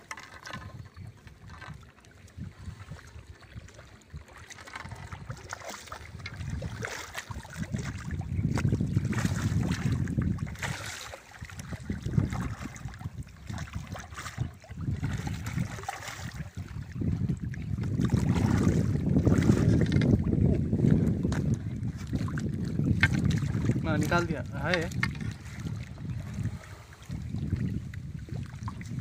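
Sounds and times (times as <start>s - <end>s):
water lapping at shoreline: 0.0s - 29.0s
wind rumbling on microphone: 0.0s - 29.0s.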